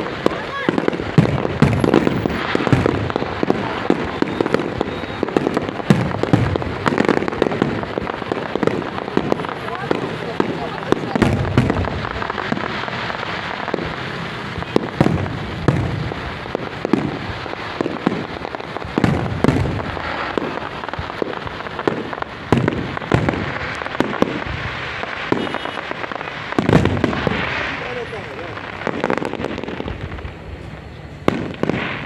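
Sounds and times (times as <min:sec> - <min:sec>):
loud firework bangs: 0:00.0 - 0:32.0
small firework pops: 0:00.0 - 0:32.0.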